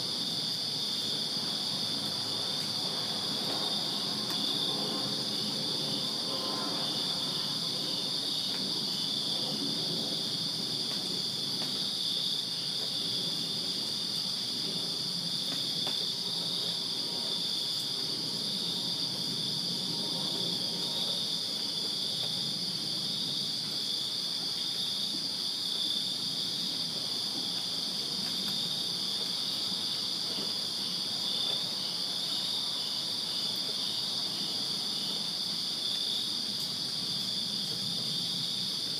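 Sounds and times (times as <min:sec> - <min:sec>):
crickets chirping: 0:00.0 - 0:38.9
low background noise: 0:00.0 - 0:38.9.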